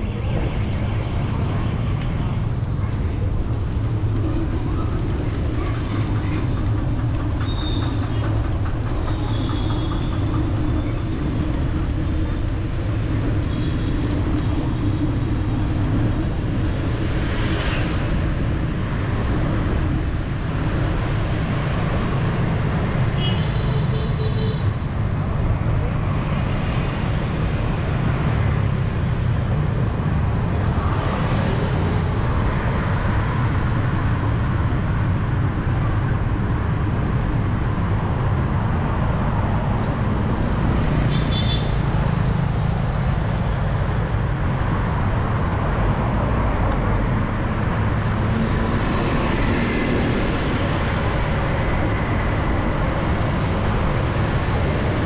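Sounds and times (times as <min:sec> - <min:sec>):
passing traffic rumble: 0:00.0 - 0:55.0.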